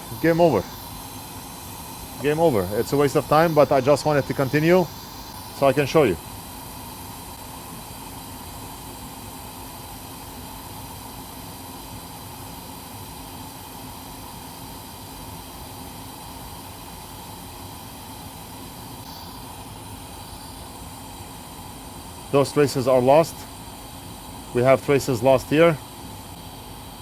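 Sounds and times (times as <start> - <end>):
hot air blower hissing: 0.0 - 27.0.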